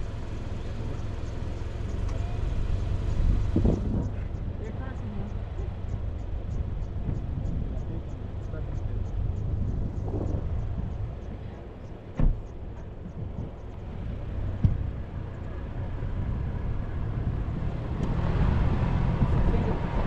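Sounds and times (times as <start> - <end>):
vehicle rumbling: 0.0 - 20.0.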